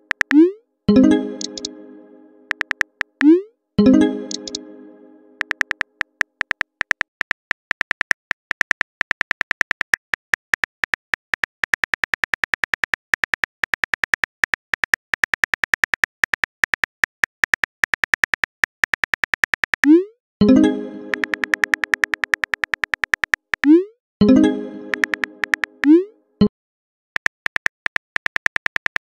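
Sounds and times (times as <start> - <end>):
phone keyboard typing ticks: 0.0 - 1.7, 2.5 - 4.6, 5.4 - 26.1, 27.2 - 29.0.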